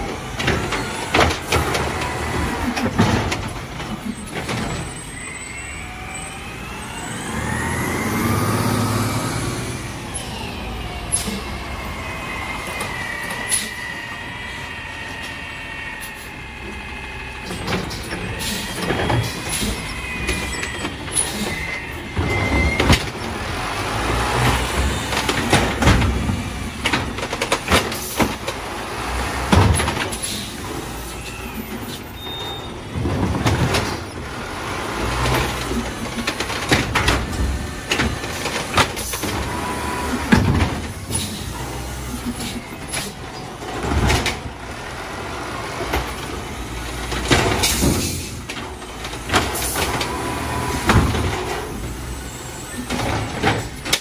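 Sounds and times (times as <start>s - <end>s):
truck engine revving: 0.0s - 31.9s, 32.5s - 54.0s.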